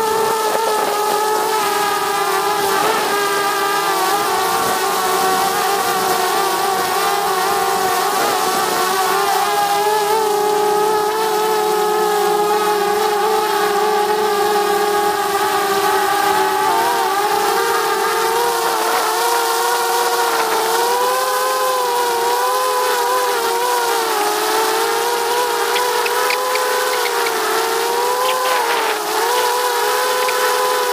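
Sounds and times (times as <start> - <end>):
drone propellers whining: 0.0 - 30.9.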